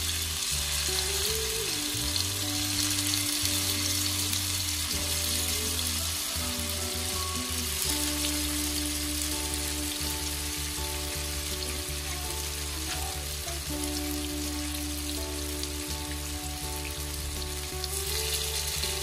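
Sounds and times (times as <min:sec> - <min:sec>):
soft background music: 0:00.0 - 0:19.0
tofu sizzling in hot oil: 0:00.0 - 0:19.0.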